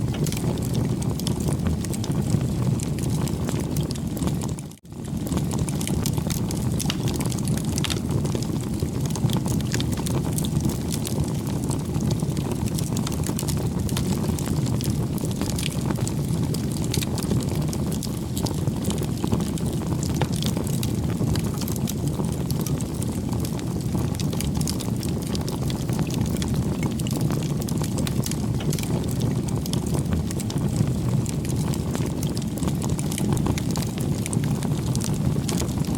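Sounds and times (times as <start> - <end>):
fire crackles and pops: 0.0 - 35.9
rush of bonfire flame: 0.0 - 35.9.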